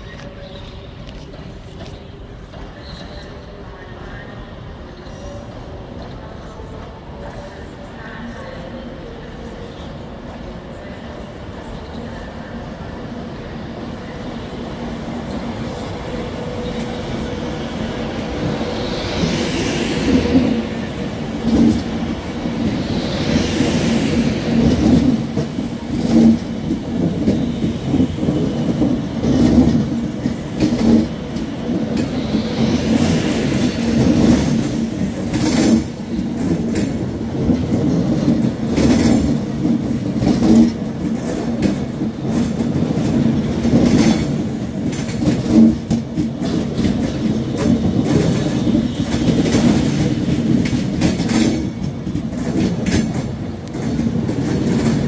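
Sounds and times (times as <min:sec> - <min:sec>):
electric train hum: 0:00.0 - 0:55.0.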